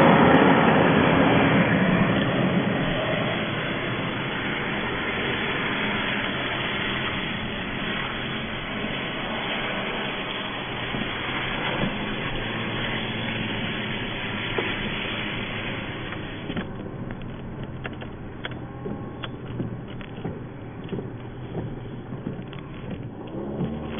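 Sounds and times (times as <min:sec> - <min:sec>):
car engine hum: 0:00.0 - 0:23.9
rain hiss on car: 0:01.0 - 0:23.9.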